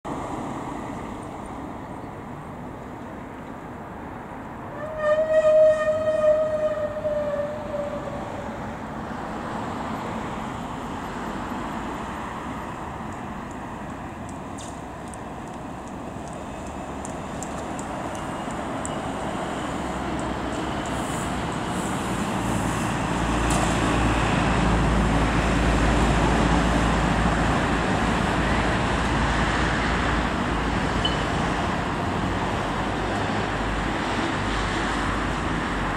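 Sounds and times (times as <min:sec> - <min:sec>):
road traffic passing: 0:00.1 - 0:35.9.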